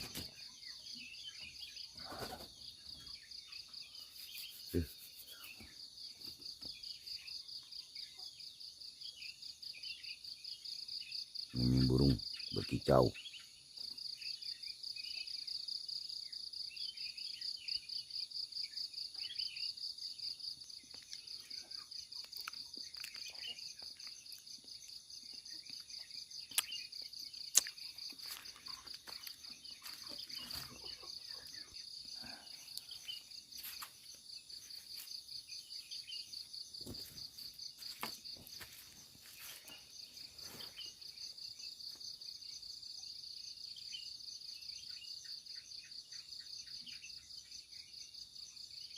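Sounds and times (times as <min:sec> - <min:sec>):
birds chirping: 0:00.0 - 0:48.9
insects droning: 0:00.0 - 0:48.9.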